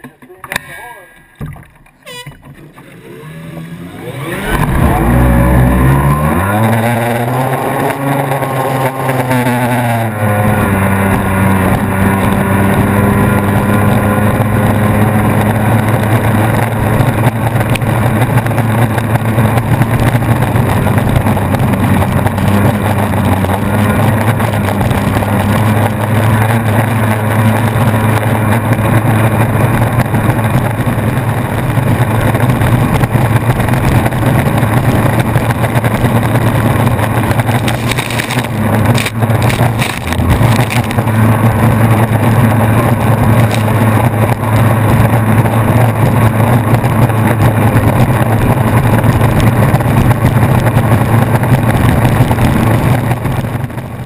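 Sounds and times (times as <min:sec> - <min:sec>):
racing boat engine at full throttle: 0:00.0 - 0:54.0
rush of wind and water: 0:03.4 - 0:54.0.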